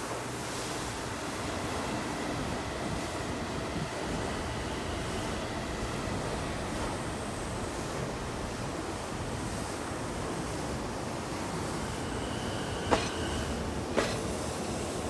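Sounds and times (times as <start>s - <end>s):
train rumbling past: 0.4s - 15.0s.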